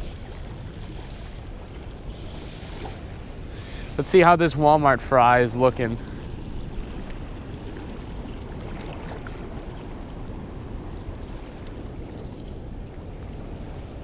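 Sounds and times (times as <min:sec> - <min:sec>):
river water flowing: 0:00.0 - 0:14.0
wind rumble on microphone: 0:00.0 - 0:14.0.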